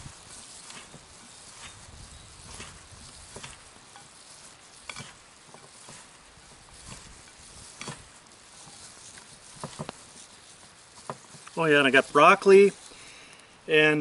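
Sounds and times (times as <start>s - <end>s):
spoon mixing stuffing: 0.0s - 14.0s.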